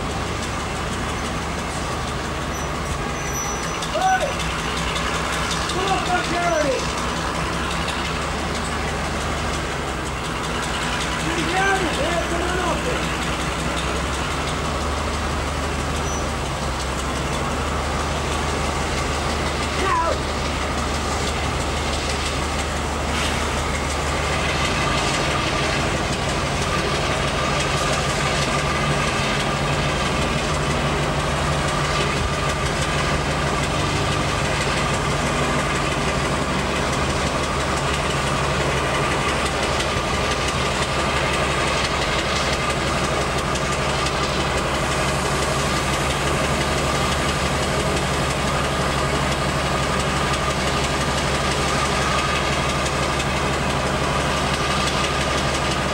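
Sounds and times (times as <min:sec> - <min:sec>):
diesel locomotive idling: 0:00.0 - 0:55.9.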